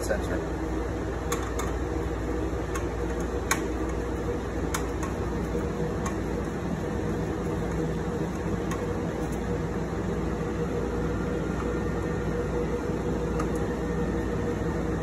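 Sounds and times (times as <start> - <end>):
cooling fans humming: 0.0 - 15.0.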